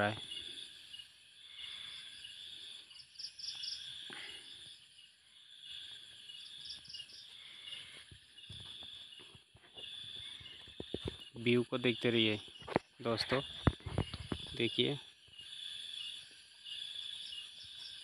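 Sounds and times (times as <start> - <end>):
insects chirping: 0.0 - 18.0
pulsed insect trills: 0.0 - 18.0.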